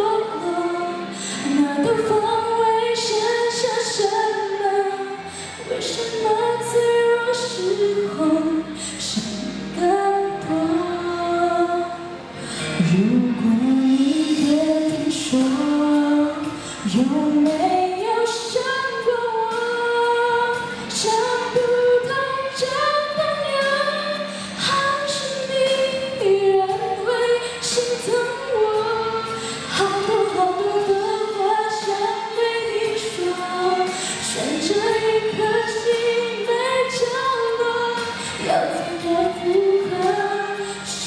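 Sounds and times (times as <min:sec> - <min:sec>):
woman singing into a microphone: 0:00.0 - 0:41.0.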